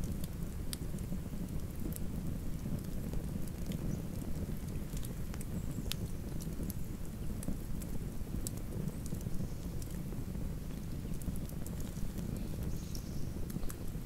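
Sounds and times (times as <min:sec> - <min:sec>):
campfire flames rushing: 0:00.0 - 0:14.0
fire crackling and snapping: 0:00.0 - 0:14.0.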